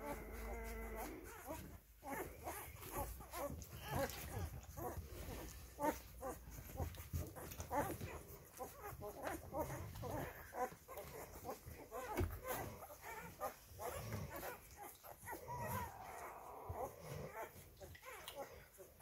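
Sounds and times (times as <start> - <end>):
puppies squeaking and whimpering: 0.0 - 19.0.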